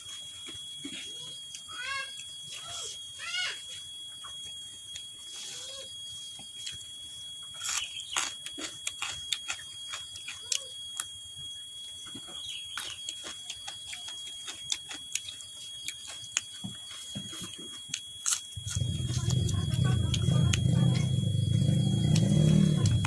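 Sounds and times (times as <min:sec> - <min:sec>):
faint high whine: 0:00.0 - 0:23.0
chewing crunchy vegetables: 0:04.2 - 0:23.0.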